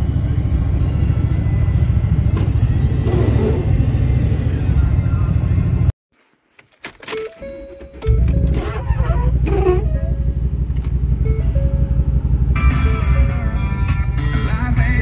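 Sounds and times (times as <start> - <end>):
engine and road noise rumble: 0.0 - 15.0.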